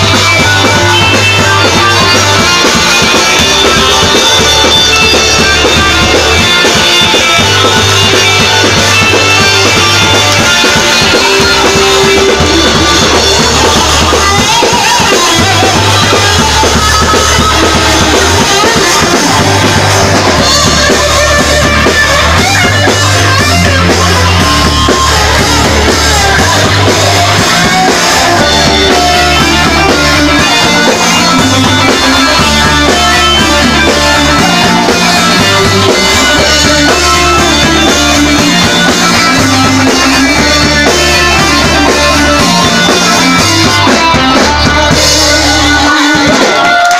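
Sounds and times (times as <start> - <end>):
bass line: 0.0 - 46.9
drum kit: 0.0 - 46.9
electric guitar: 0.0 - 46.9
folk-metal band playing: 0.0 - 46.9.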